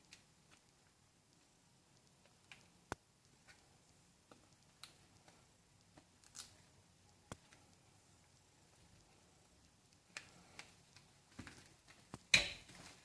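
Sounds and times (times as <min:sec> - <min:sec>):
faint clicks and taps: 0:00.0 - 0:13.0.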